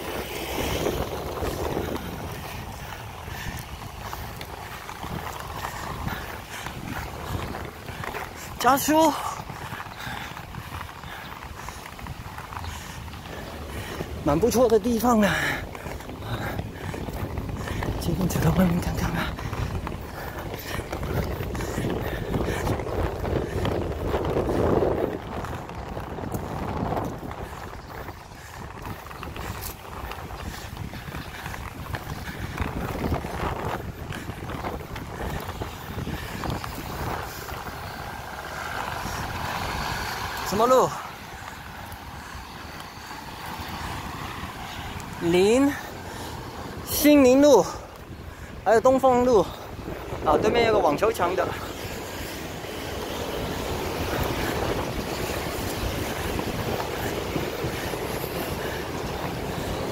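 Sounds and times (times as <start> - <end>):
inline skate wheels rolling on bricks: 0.0 - 59.9
skate wheels clicking over joints: 0.0 - 59.9
wind buffeting microphone: 0.0 - 59.9.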